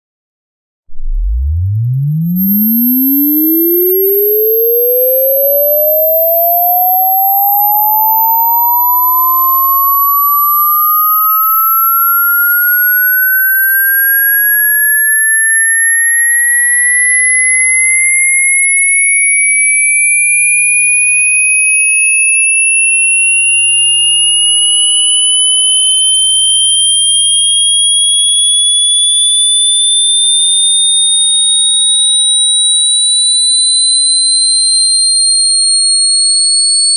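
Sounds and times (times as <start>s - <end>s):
high thin tone falling: 0.9s - 36.9s
rising sine-tone sweep: 0.9s - 36.9s.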